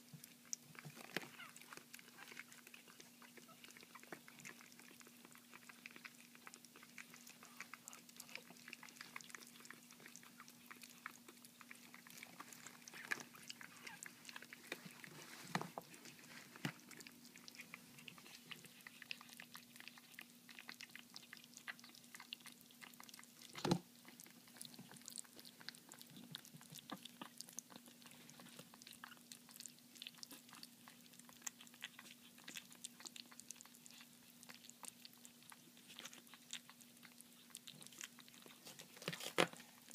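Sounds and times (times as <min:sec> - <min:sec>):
puppies chewing wet food: 0:00.0 - 0:39.9.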